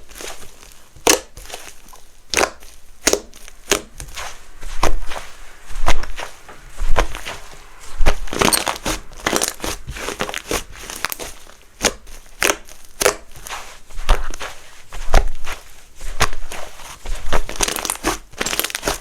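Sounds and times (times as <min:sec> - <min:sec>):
clay slime squishing: 0:00.0 - 0:19.0.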